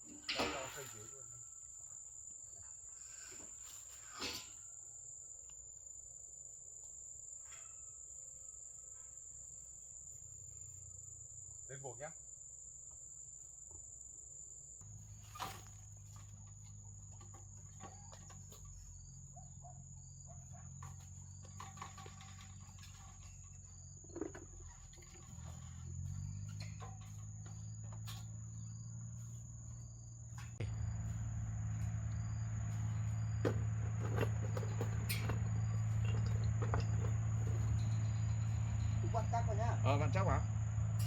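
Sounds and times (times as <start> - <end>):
insects chirring: 0.0 - 41.0
low mechanical hum: 7.1 - 41.0.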